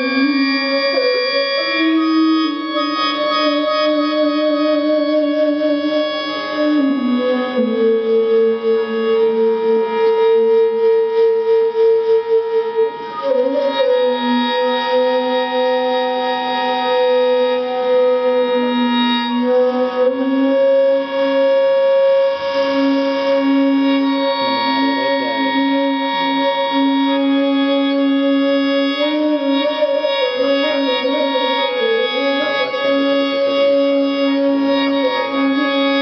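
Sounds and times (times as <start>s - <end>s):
melody instrument sustained notes: 0.0s - 10.6s, 11.7s - 36.0s
flute: 0.0s - 36.0s.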